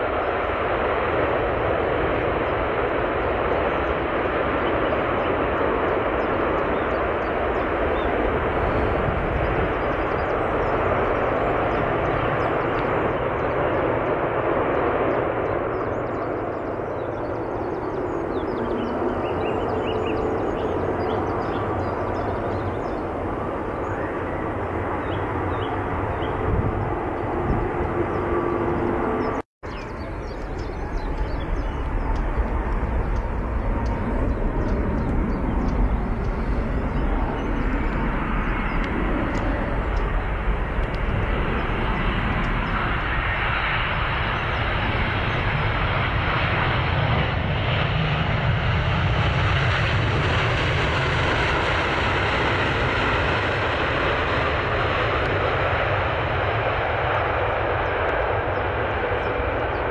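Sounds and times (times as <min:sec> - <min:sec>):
jet airliner engine rumble: 0:00.0 - 0:59.9.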